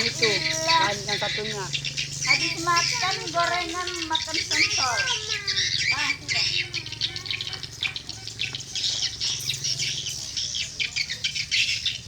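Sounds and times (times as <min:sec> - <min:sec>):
swiftlets twittering: 0:00.0 - 0:10.4.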